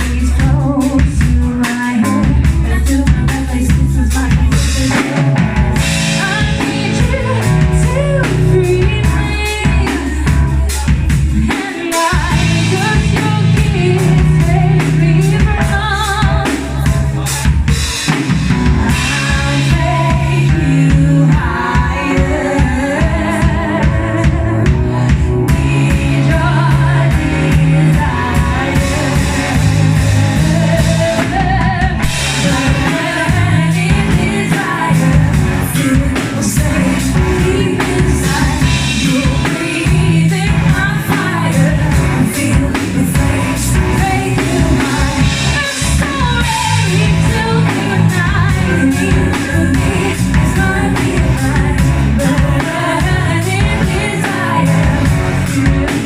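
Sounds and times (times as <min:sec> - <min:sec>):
drum beat: 0:00.0 - 0:56.0
guitar: 0:00.0 - 0:56.0
person singing lead vocal: 0:00.0 - 0:56.0.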